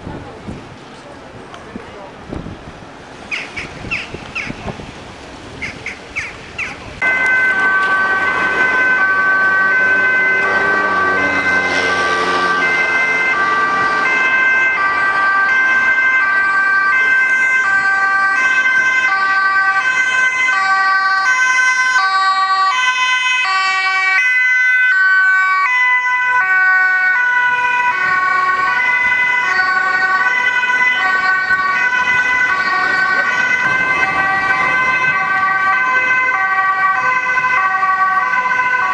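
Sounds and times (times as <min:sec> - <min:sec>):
two-tone emergency sirens: 0:07.0 - 0:38.9.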